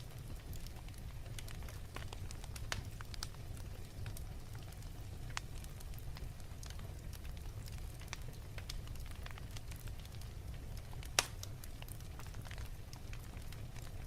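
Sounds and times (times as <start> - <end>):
fireplace crackling and popping: 0.0 - 14.0
low fire rumble: 0.0 - 14.0.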